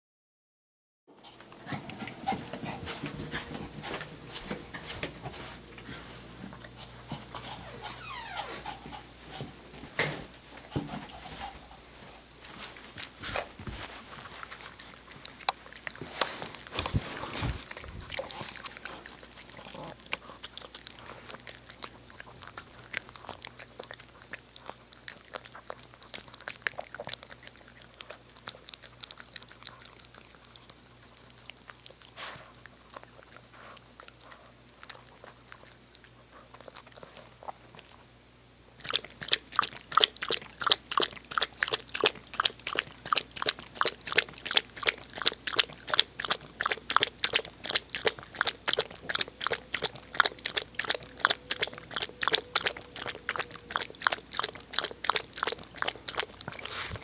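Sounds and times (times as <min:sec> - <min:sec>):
dog crunching and chewing food: 0:01.2 - 0:57.0.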